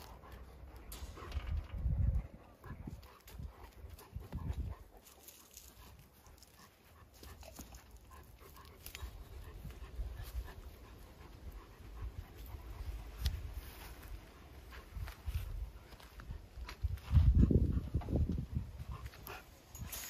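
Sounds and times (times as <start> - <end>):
animal panting faintly: 0.0 - 19.9.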